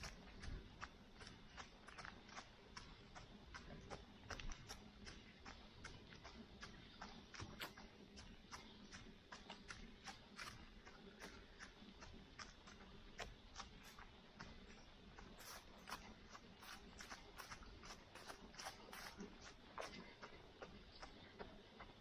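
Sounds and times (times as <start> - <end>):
rain drops ticking: 0.0 - 22.0.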